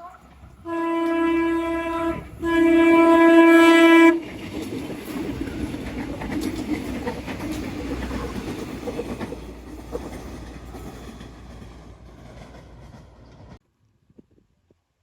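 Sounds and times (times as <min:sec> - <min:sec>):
train rumbling along track: 0:00.0 - 0:13.6
wheels clicking over rail joints: 0:00.0 - 0:13.6.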